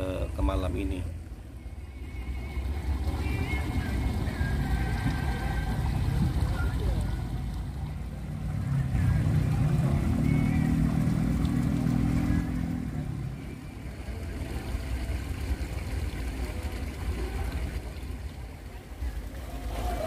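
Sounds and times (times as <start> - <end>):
continuous low rumble: 0.0 - 20.0
vehicle engine humming: 0.0 - 20.0.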